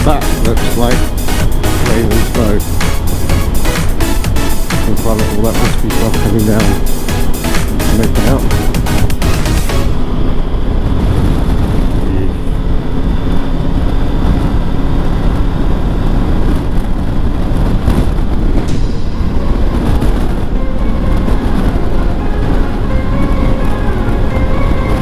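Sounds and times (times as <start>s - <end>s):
motorcycle engine running: 0.0s - 25.0s
wind rush and road noise: 0.0s - 25.0s.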